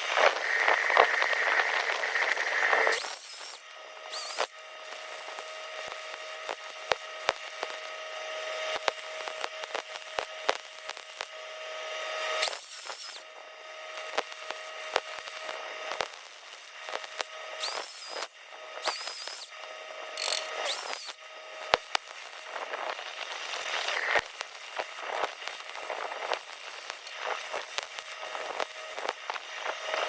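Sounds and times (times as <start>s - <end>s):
welding arc hissing: 0.0s - 8.0s, 8.7s - 11.4s, 12.4s - 30.0s
machine hum: 0.0s - 30.0s
welding arc crackling: 0.0s - 30.0s.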